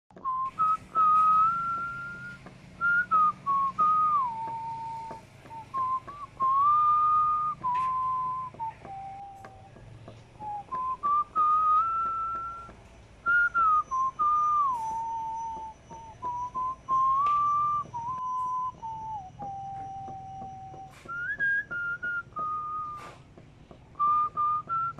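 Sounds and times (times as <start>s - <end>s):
person whistling a slow tune: 0.1s - 24.9s.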